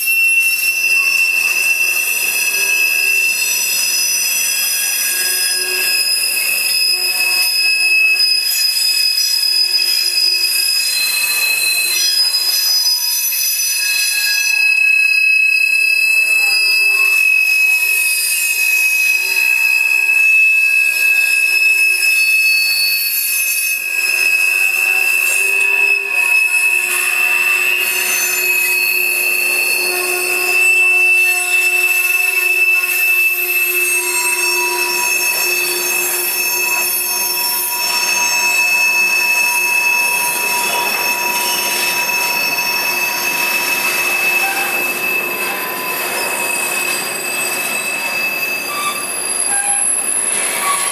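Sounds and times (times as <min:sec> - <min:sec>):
train wheels squealing: 0:00.0 - 0:50.9.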